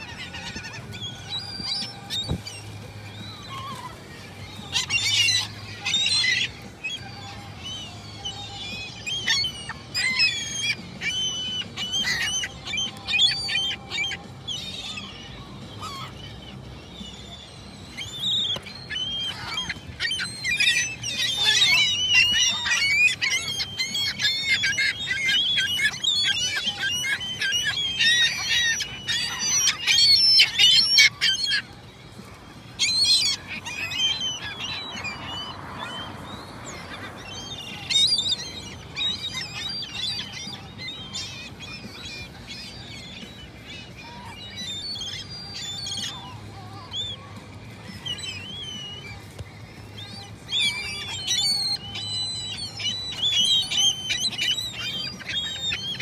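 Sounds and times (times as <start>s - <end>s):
seagulls calling: 0.0s - 56.0s.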